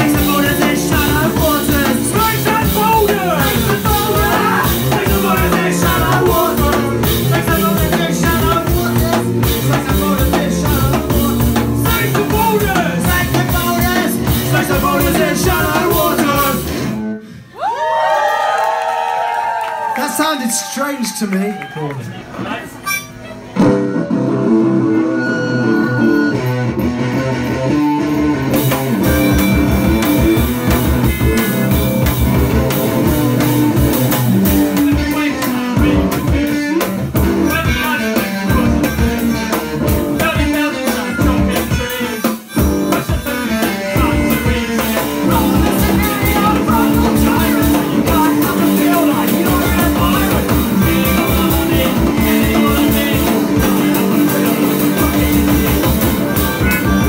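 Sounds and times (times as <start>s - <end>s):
driving drum kit with cymbals: 0.0s - 17.1s, 26.3s - 57.0s
guitars: 0.0s - 17.4s, 22.3s - 57.0s
rock band playing loudly: 0.0s - 17.5s, 22.3s - 57.0s.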